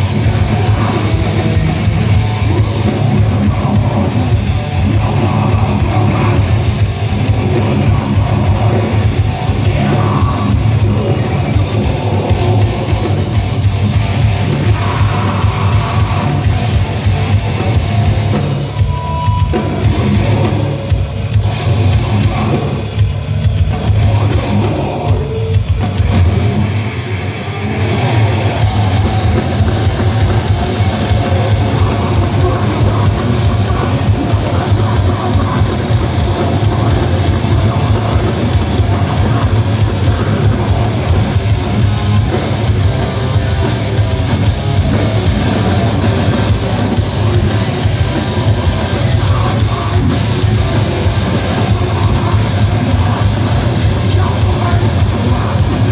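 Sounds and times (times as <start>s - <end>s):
bass guitar: 0.0s - 55.9s
distorted electric guitars: 0.0s - 55.9s
pounding drum kit: 0.0s - 55.9s.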